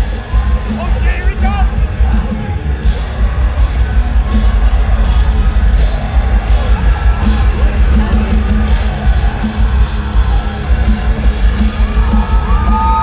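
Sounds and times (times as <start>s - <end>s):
distorted guitars: 0.0s - 13.0s
metalcore band playing live: 0.0s - 13.0s
pounding drums: 0.0s - 13.0s.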